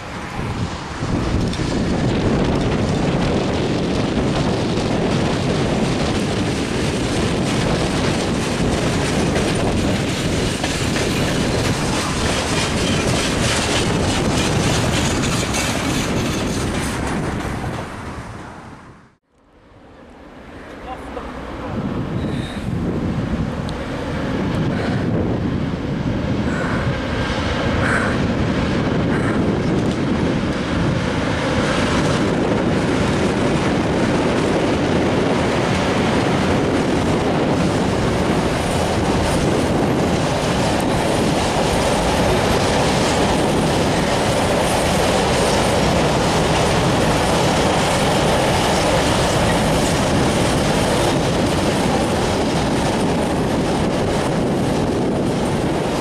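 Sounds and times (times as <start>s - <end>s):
train wheels rumbling on rails: 0.0s - 19.2s, 20.0s - 56.0s.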